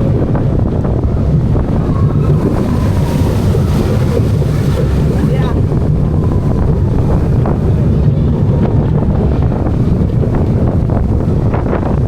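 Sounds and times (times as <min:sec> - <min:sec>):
air rushing over microphone: 0:00.0 - 0:12.0
roller coaster rumbling on track: 0:00.0 - 0:12.0.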